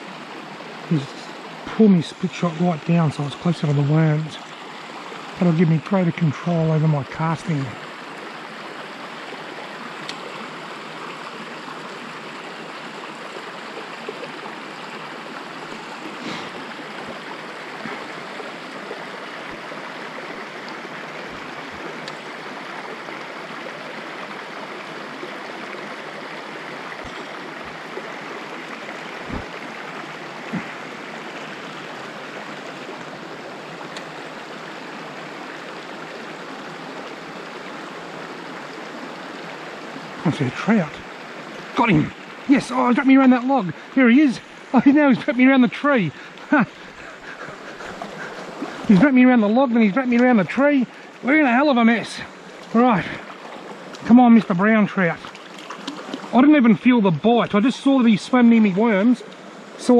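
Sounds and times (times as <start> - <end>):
creek running over stones: 0.0 - 59.9.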